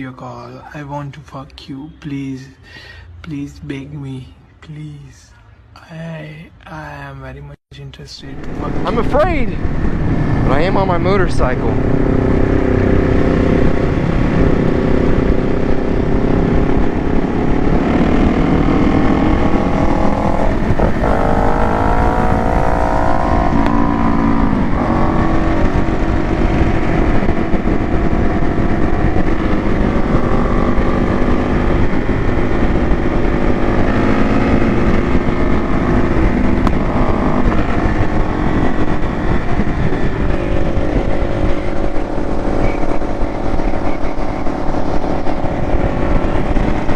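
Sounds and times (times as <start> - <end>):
motorcycle engine: 8.3 - 46.9.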